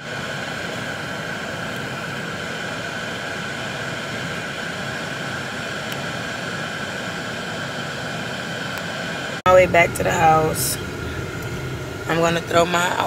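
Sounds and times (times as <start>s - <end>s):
air-conditioning blower rushing: 0.0s - 13.0s.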